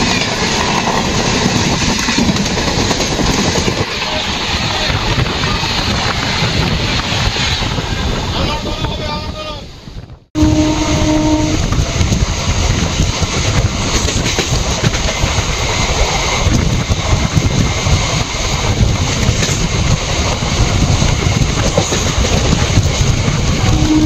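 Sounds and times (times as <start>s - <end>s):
train wheels rumbling on rails: 0.0s - 24.0s
wind rushing over microphone: 0.0s - 24.0s.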